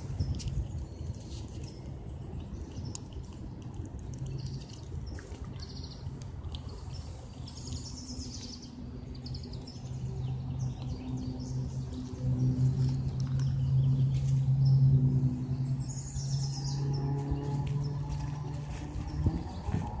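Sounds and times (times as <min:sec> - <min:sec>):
low steady hum: 0:00.0 - 0:20.0
small birds chirping and trilling: 0:00.0 - 0:20.0.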